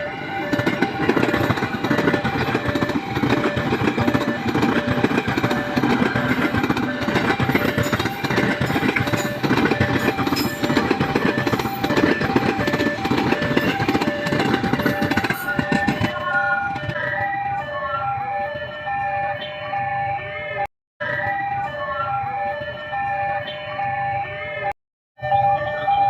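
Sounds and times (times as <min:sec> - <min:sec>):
two-tone siren: 0:00.0 - 0:26.0.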